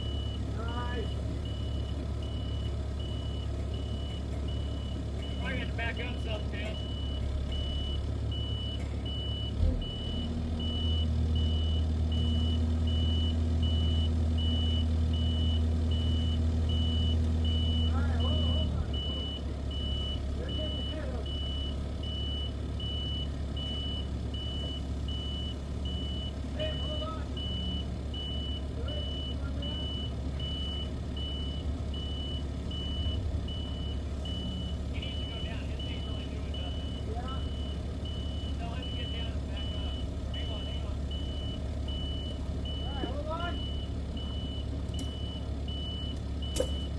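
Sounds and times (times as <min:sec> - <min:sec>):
heavy vehicle engine running: 0:00.0 - 0:46.9
reversing alarm beeping: 0:00.0 - 0:46.9.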